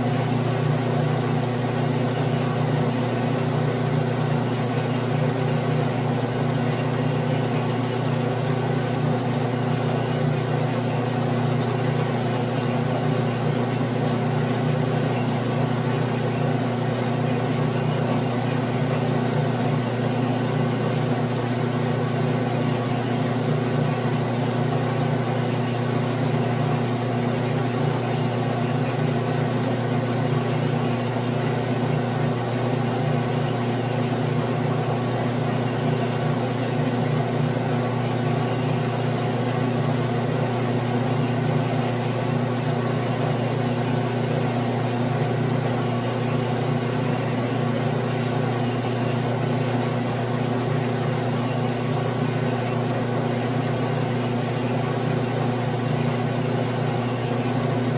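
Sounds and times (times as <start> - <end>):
lathe humming while cutting metal: 0.0 - 57.9.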